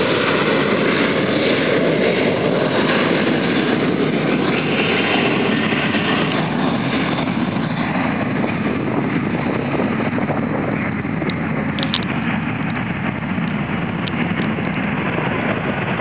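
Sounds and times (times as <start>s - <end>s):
jet airliner taking off: 0.0s - 16.0s.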